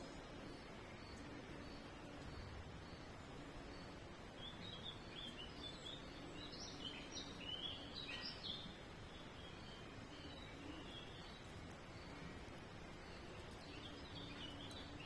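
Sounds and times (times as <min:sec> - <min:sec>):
faint outdoor hiss: 0:00.0 - 0:15.0
small bird chirping: 0:00.0 - 0:15.0.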